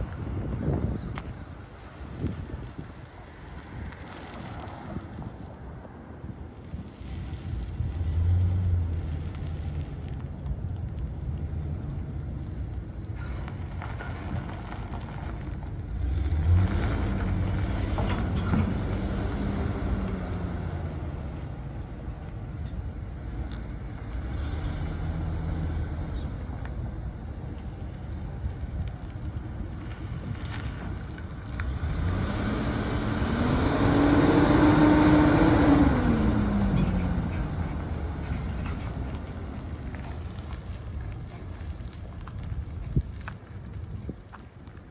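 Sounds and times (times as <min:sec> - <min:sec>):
truck engine driving: 0:00.0 - 0:44.9.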